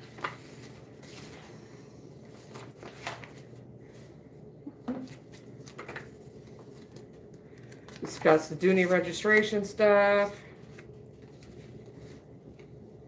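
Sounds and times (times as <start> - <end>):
paper rustling and crinkling: 0.0 - 4.1, 5.0 - 12.8.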